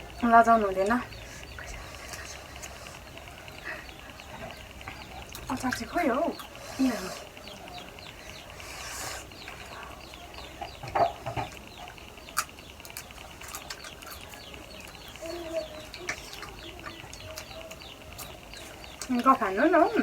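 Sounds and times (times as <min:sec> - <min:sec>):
chickens chirping: 0:00.0 - 0:20.0
chickens clucking: 0:00.0 - 0:20.0.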